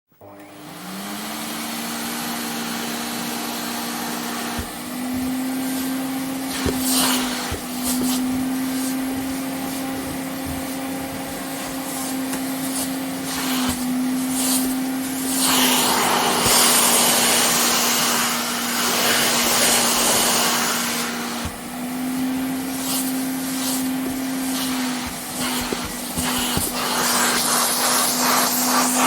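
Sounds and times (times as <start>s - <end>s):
vacuum cleaner running: 0.2s - 29.0s.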